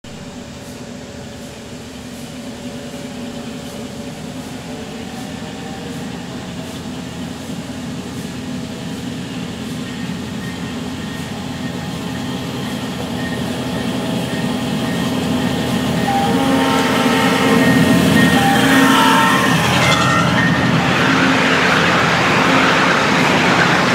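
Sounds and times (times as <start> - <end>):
train wheel noise: 0.0 - 23.9.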